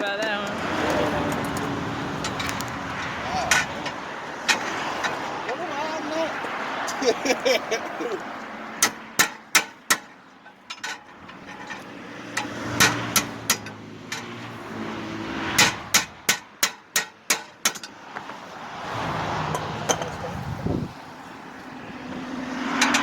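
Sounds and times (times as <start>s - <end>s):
vehicle passing: 0.0s - 10.5s, 11.1s - 16.6s, 17.8s - 23.0s.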